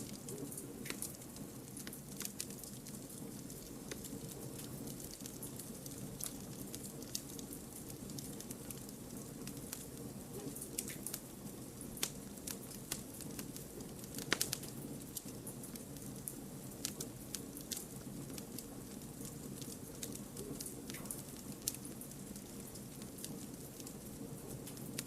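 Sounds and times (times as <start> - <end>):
campfire crackling and popping: 0.0 - 25.0
fire hissing: 0.0 - 25.0.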